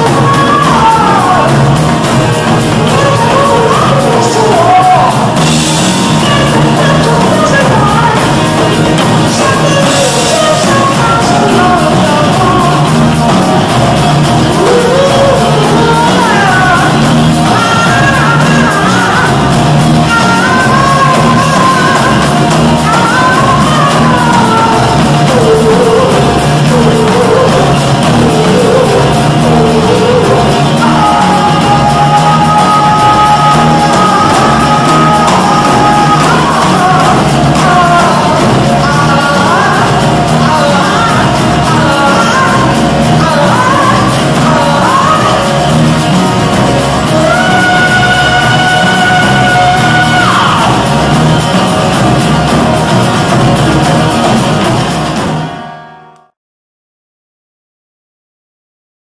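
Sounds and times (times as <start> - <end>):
person singing: 0.0 - 54.9
drum kit beat: 0.0 - 56.3
acoustic guitar: 0.0 - 56.4
electric bass: 0.0 - 56.4.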